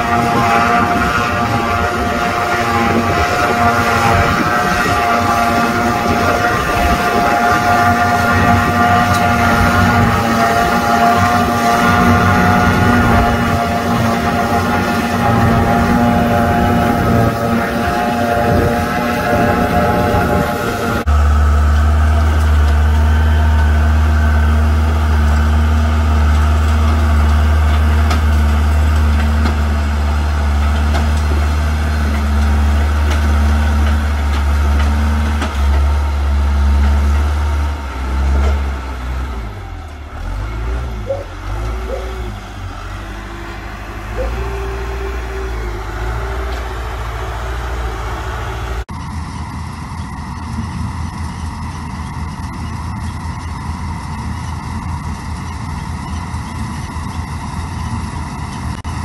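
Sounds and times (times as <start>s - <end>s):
wheel loader diesel engine droning: 0.0s - 59.0s.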